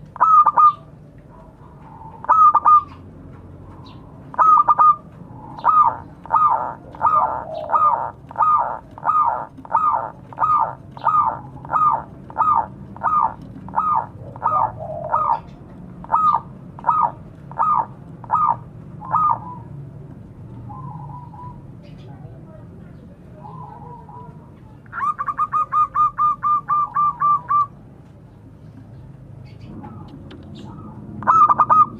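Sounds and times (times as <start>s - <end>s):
dove cooing: 0.0s - 22.3s, 23.3s - 27.8s, 29.6s - 31.9s.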